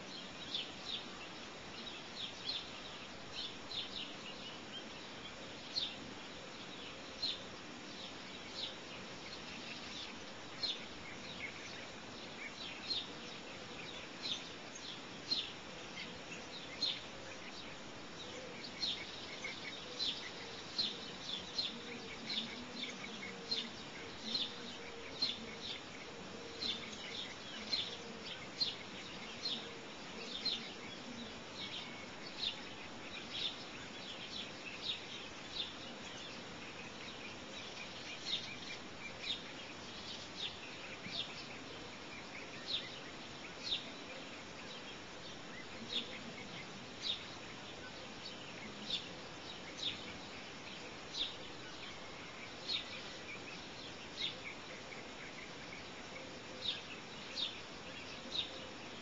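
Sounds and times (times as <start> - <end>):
bird chirping: 0.0 - 59.0
faint background hiss: 0.0 - 59.0.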